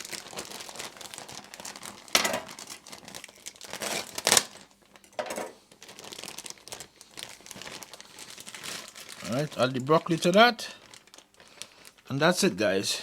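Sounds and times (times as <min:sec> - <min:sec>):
broccoli rustling into a pan: 0:00.0 - 0:12.0.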